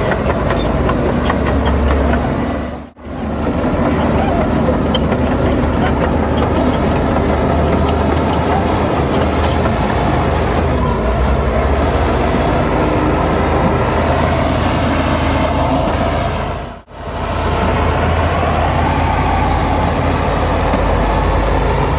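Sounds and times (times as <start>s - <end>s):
diesel machinery engine rumble: 0.0s - 21.9s.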